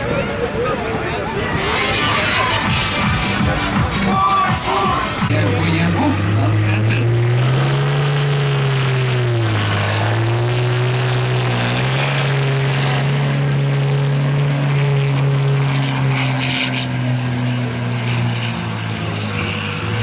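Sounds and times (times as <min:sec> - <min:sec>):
diesel engine under heavy load: 0:00.0 - 0:20.0.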